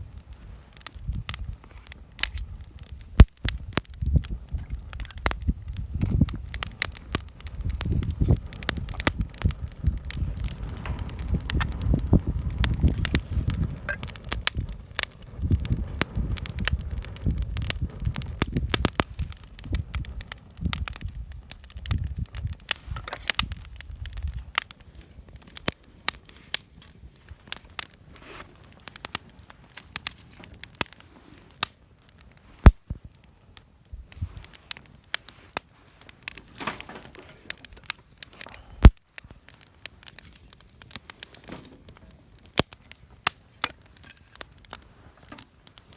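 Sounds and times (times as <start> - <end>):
campfire crackling: 0.0 - 45.9
loud fire pops: 0.0 - 45.9.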